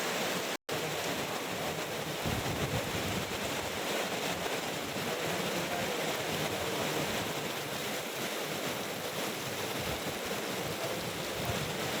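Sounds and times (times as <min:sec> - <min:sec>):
heavy rain downpour: 0:00.0 - 0:12.0
strong wind: 0:00.0 - 0:12.0.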